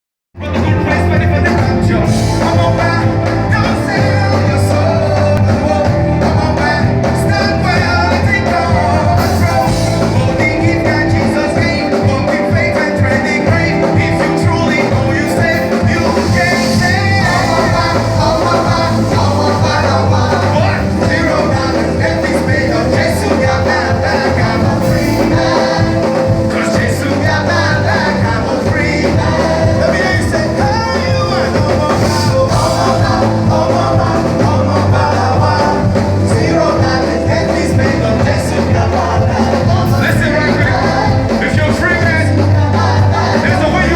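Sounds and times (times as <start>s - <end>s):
worship band with singing: 0.4s - 43.9s.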